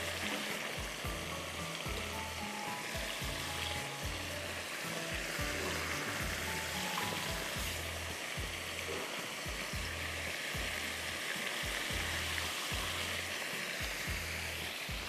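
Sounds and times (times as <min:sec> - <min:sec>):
background music with low beat: 0:00.0 - 0:15.0
prawns deep-frying in oil: 0:00.0 - 0:15.0.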